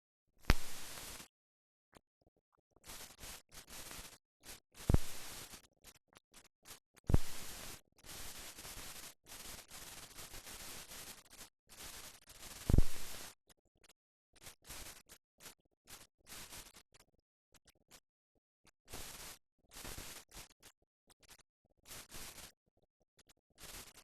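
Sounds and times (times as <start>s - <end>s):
film soundtrack hiss and crackle: 0.4s - 1.3s, 2.8s - 17.0s, 18.9s - 22.6s, 23.2s - 24.0s.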